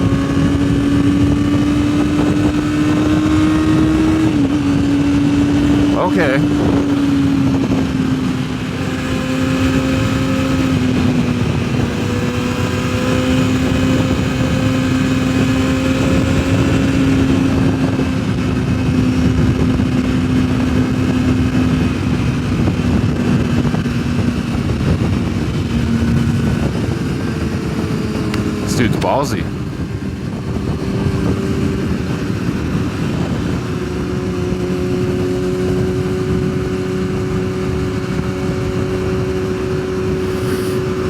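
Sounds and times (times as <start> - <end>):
motorcycle engine cruising: 0.0 - 41.0
wind rushing over microphone: 0.0 - 41.0.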